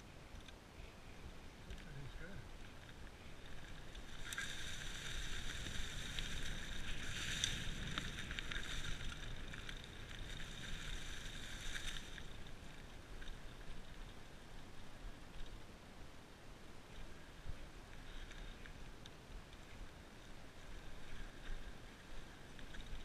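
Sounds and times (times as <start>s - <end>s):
bike tyres rolling on dirt: 0.0s - 23.0s.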